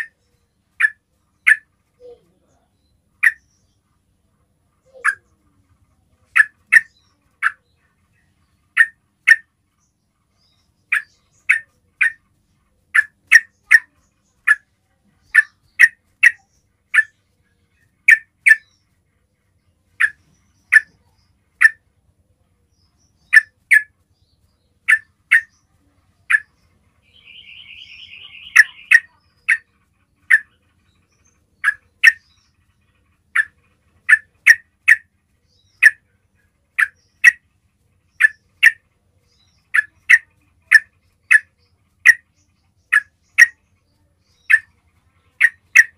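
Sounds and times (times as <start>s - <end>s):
bird chip calls: 0.0s - 2.3s, 3.2s - 3.8s, 4.8s - 5.6s, 6.2s - 18.9s, 19.9s - 21.9s, 22.7s - 45.9s
faint rapid bird trill: 0.0s - 45.9s.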